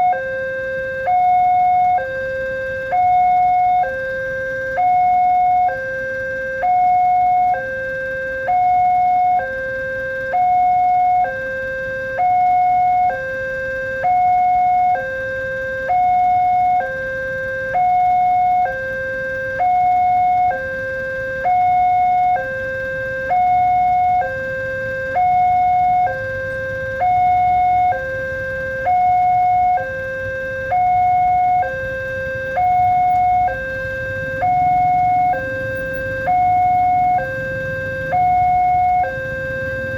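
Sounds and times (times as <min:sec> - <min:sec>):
two-tone level crossing alarm: 0:00.0 - 0:39.9.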